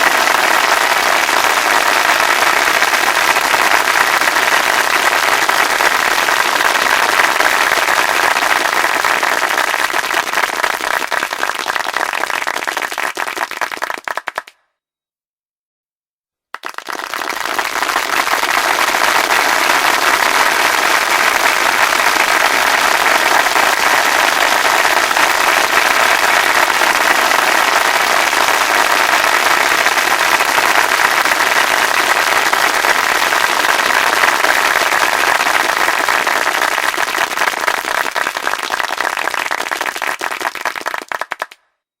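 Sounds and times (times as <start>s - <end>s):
crowd applause: 0.0s - 14.5s, 16.6s - 41.6s.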